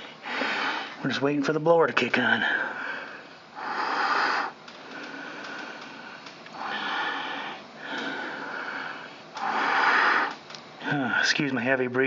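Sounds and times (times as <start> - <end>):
man breathing heavily: 0.0 - 1.1, 2.3 - 11.2.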